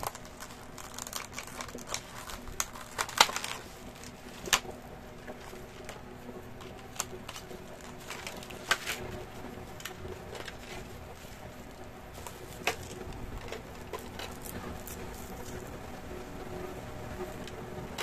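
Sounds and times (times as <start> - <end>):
plastic packaging crackling: 0.0 - 18.0.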